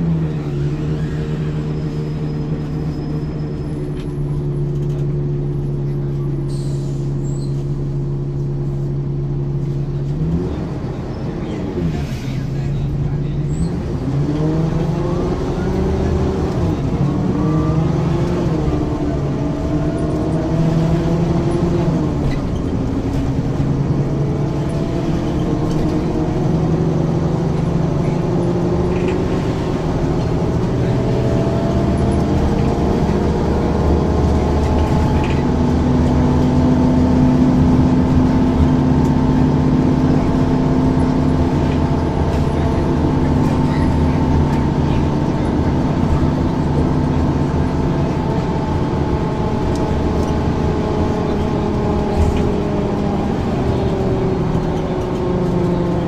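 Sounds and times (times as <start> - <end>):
bus diesel engine pulling: 0.0 - 56.0.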